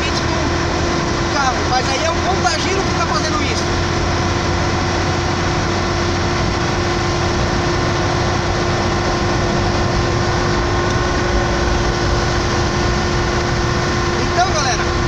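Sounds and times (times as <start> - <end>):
engine and road noise: 0.0 - 15.0
tachometer whine: 0.0 - 15.0.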